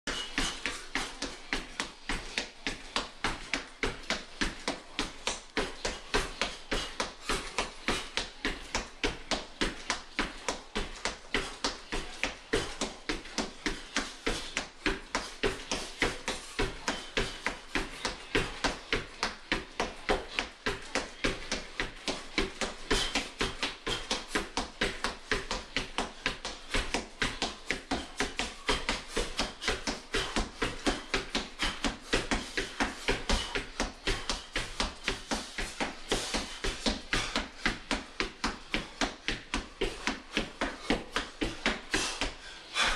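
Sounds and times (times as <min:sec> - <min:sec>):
feet thudding on hardwood floor: 0:00.1 - 0:42.9.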